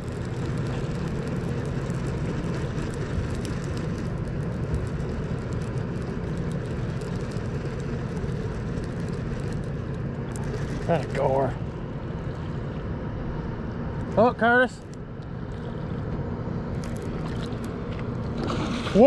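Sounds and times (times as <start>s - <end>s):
low mechanical drone: 0.0s - 19.0s.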